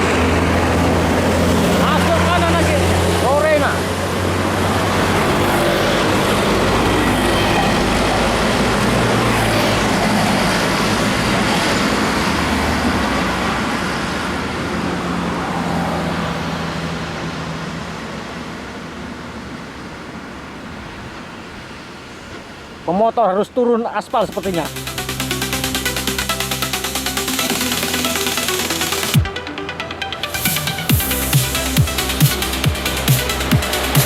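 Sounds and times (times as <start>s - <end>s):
heavy vehicle engine drone: 0.0s - 34.0s
tyre and road noise: 0.0s - 34.0s.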